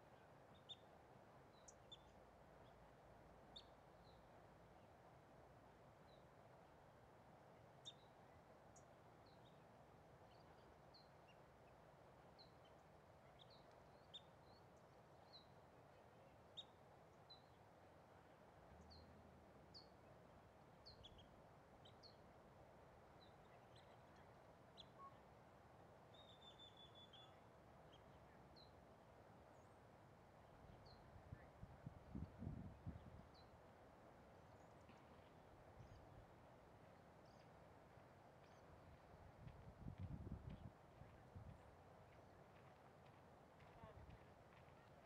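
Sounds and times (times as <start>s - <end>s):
low steady background hiss: 0.0s - 45.0s.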